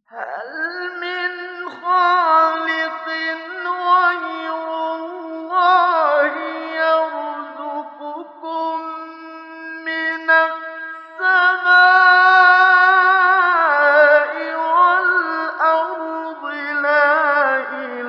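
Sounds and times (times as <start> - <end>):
man chanting recitation: 0.1 - 18.0.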